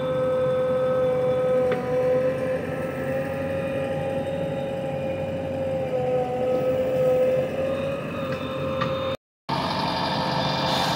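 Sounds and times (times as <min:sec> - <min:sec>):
backhoe diesel engine rumble: 0:00.0 - 0:10.9
steady hydraulic whine: 0:00.0 - 0:10.9.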